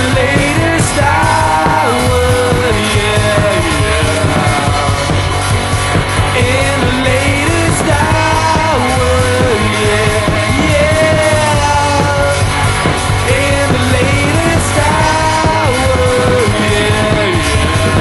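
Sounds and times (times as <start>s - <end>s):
bending lead melody: 0.0s - 18.0s
rock band playing: 0.0s - 18.0s.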